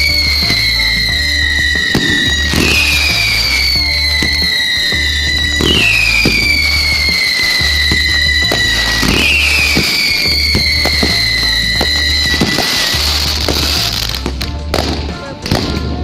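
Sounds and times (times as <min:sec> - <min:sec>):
firework whistle falling in pitch: 0:00.0 - 0:14.2
fireworks banging and crackling: 0:00.0 - 0:16.0
music with pulsing bass: 0:00.0 - 0:16.0.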